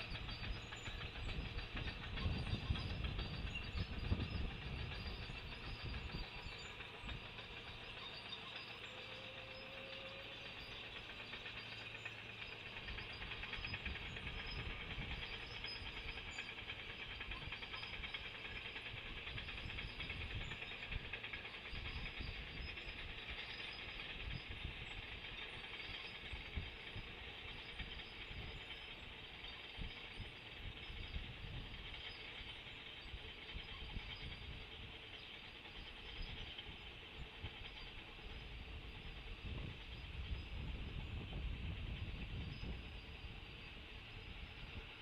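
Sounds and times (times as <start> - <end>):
rushing outdoor noise: 0.0 - 45.0.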